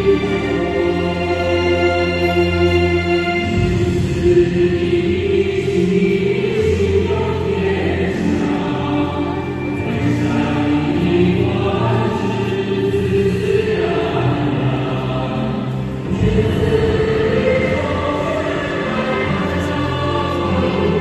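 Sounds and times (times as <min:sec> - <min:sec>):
choir singing long held notes: 0:00.0 - 0:21.0.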